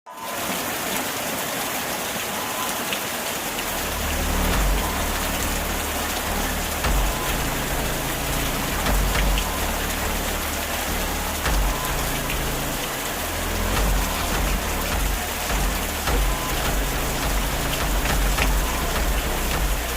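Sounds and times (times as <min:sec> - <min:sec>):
rain falling: 0:00.1 - 0:19.9.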